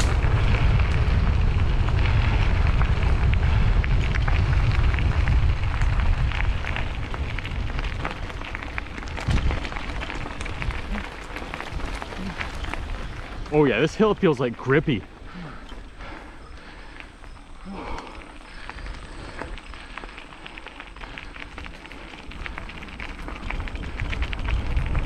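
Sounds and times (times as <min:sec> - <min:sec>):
bike rattling: 0:00.0 - 0:25.0
tyres crackling on dirt trail: 0:00.0 - 0:25.0
wind buffeting microphone: 0:00.0 - 0:25.0.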